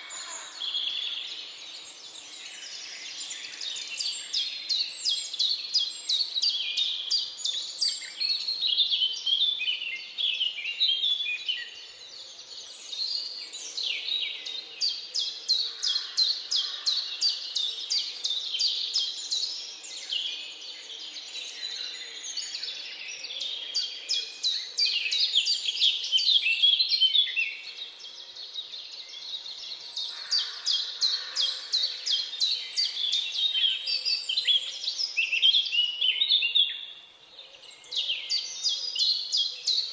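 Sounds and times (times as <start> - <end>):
chorus of birds singing: 0.0 - 39.9.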